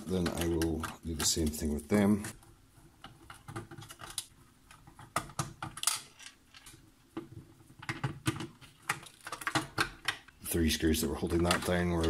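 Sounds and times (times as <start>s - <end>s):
hands clicking and tapping on circuit boards: 0.0s - 10.4s, 11.3s - 12.0s.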